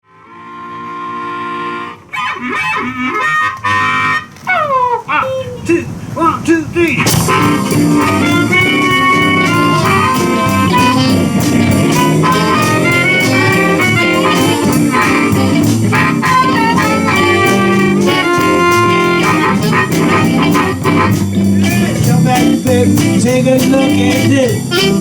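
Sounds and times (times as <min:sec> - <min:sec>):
blues band playing: 0:00.1 - 0:25.0
reedy lead line: 0:00.2 - 0:25.0.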